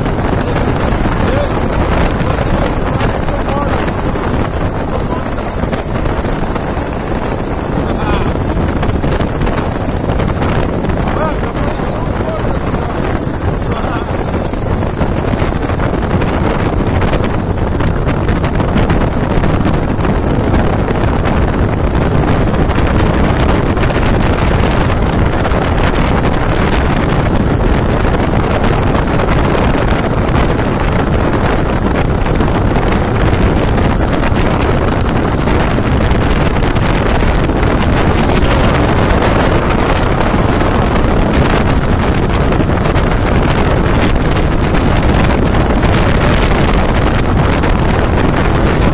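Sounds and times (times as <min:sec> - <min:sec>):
motorcycle engine: 0:00.0 - 0:48.9
road noise: 0:00.0 - 0:48.9
wind buffeting microphone: 0:00.0 - 0:48.9.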